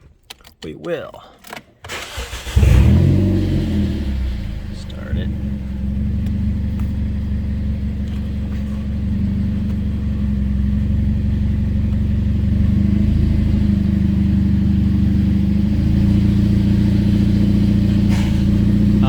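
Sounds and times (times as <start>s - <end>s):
car engine running: 2.0s - 19.0s.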